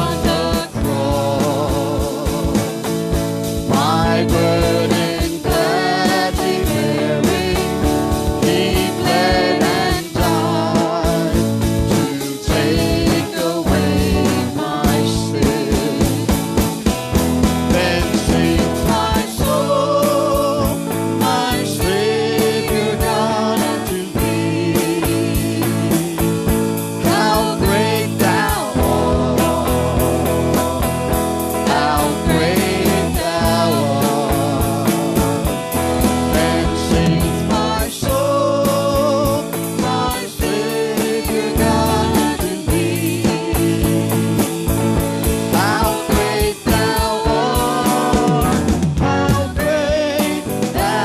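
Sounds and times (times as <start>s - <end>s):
person singing with vibrato: 0.0s - 3.0s, 3.6s - 51.0s
band with bass: 0.0s - 51.0s
steady drum beat: 0.0s - 51.0s.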